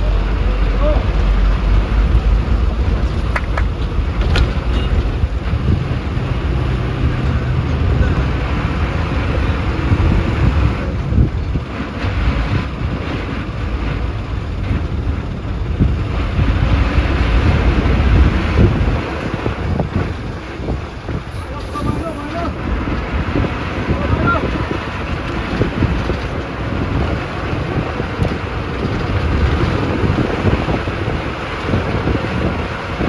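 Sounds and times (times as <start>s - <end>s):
bus engine drone: 0.0s - 33.0s
road noise: 0.0s - 33.0s
wind buffeting microphone: 0.0s - 33.0s.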